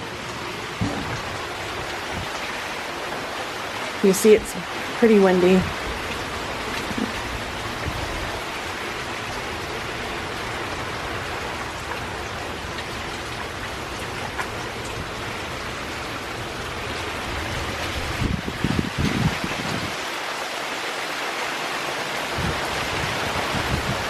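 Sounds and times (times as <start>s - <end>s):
heavy rain pouring: 0.0s - 24.0s
wind: 0.0s - 24.0s.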